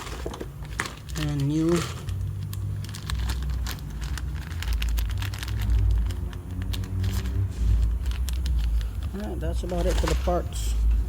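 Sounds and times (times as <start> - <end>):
packaging rustling: 0.0 - 11.0
steady low rumble: 2.1 - 11.0.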